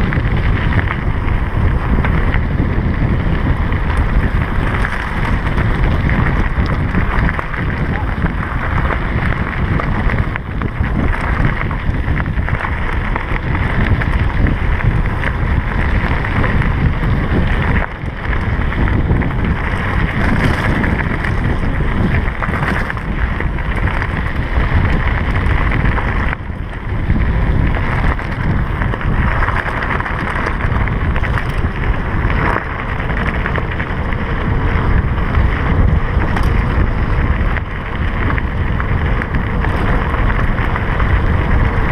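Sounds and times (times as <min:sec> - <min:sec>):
bike tyres rolling over gravel: 0:00.0 - 0:41.9
wind buffeting microphone: 0:00.0 - 0:41.9.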